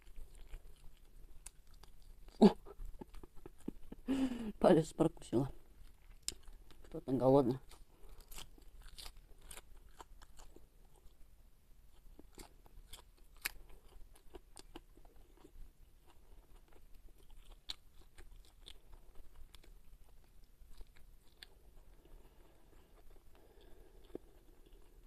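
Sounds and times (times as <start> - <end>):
person chewing and crunching: 0.0 - 4.4, 5.7 - 25.0.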